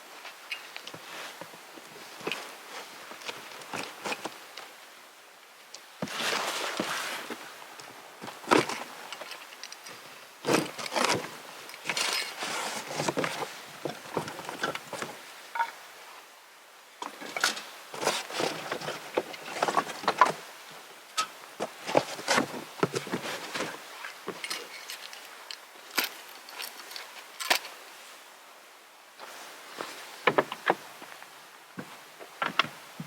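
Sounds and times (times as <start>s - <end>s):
camping gear and wood handled: 0.0s - 16.4s, 17.0s - 28.4s, 29.2s - 33.0s.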